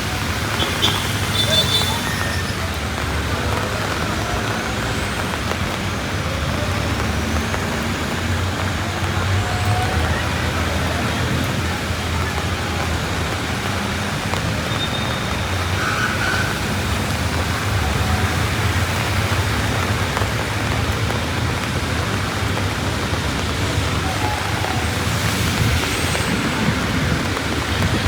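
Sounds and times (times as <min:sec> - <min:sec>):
heavy rain: 0:00.0 - 0:28.0
road traffic rumble: 0:00.0 - 0:28.0.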